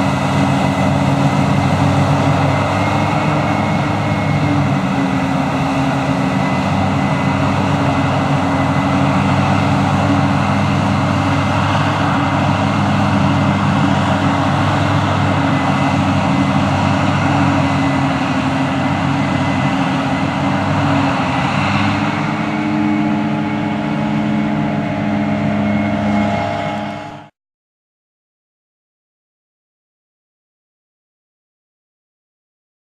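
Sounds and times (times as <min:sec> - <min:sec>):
diesel engine running under load: 0:00.0 - 0:27.3.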